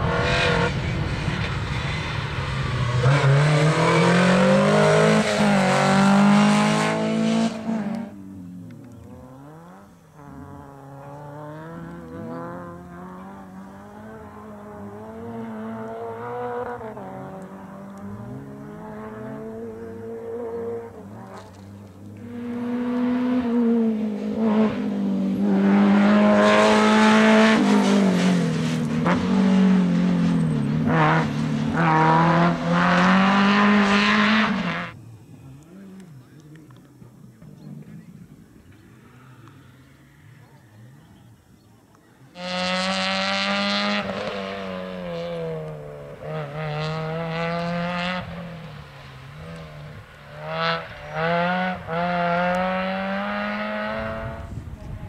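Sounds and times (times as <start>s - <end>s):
rally car engine revving: 0.0s - 35.0s, 42.3s - 55.0s.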